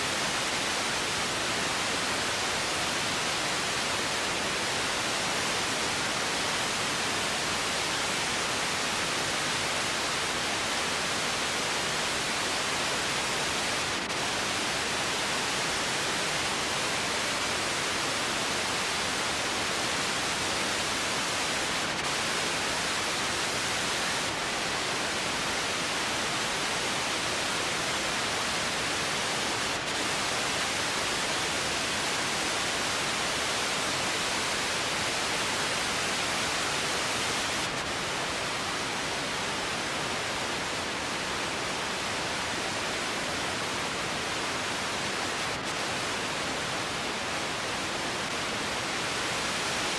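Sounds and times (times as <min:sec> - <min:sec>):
steady hiss: 0:00.0 - 0:49.9.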